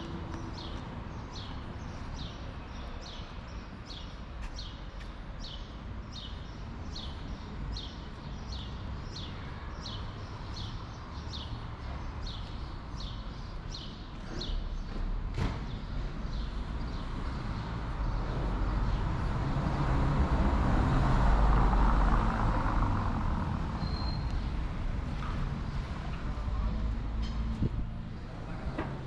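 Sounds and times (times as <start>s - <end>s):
low rumble of street noise: 0.0s - 29.0s.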